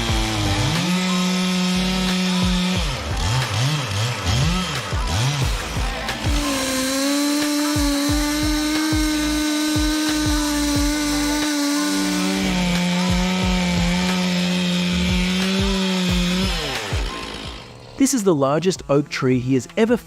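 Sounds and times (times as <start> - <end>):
chainsaw cutting wood at high revs: 0.0 - 18.0
lower chainsaw note: 0.0 - 18.2.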